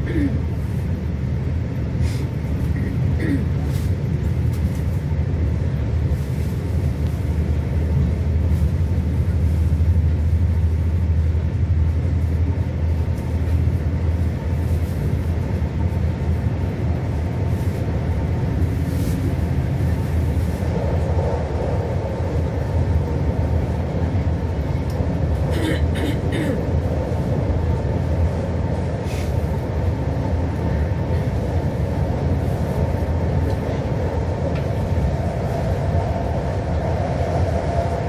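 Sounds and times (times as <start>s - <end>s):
train rumbling at speed: 0.0s - 38.0s.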